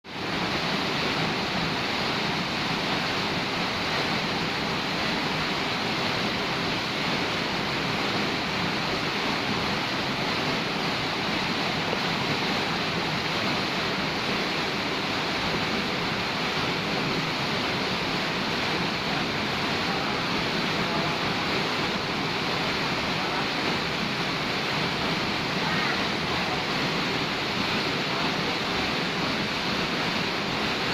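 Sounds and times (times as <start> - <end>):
waterfall rushing: 0.1 - 30.9.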